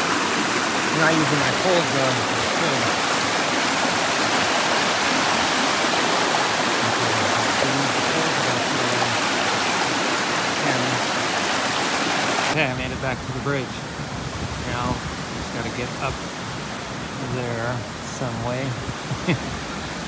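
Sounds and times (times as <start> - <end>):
mountain creek rushing: 0.0 - 20.0.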